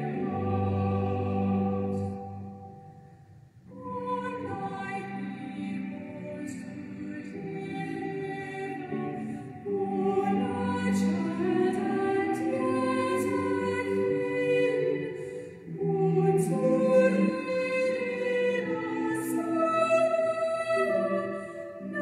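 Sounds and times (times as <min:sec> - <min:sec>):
choir singing: 0:00.0 - 0:03.0, 0:03.7 - 0:22.0.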